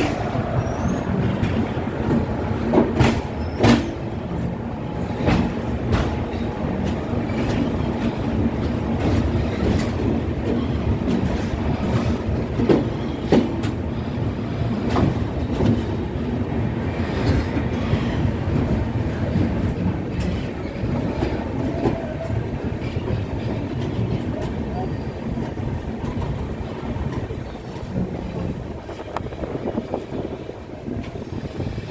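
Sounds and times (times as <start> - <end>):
wheels clacking over rail joints: 0.0 - 30.3
train rumbling: 0.0 - 31.9.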